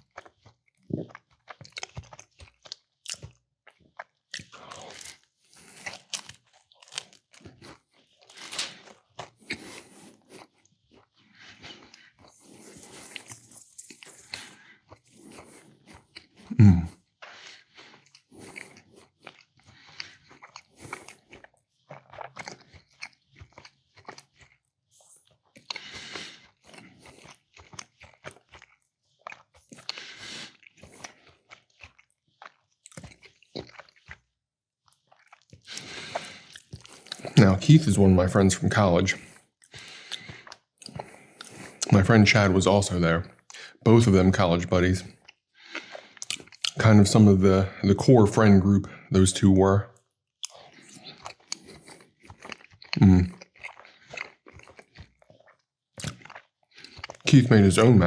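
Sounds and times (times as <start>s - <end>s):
chewing and eating: 0.0s - 58.0s.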